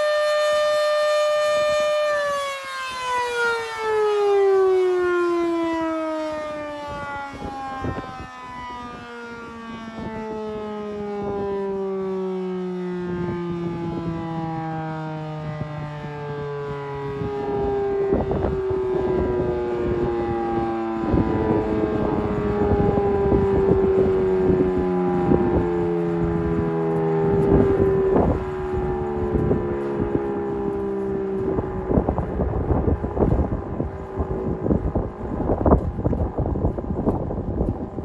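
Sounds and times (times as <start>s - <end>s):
warning siren winding down: 0.0s - 38.0s
wind buffeting microphone: 0.0s - 38.0s.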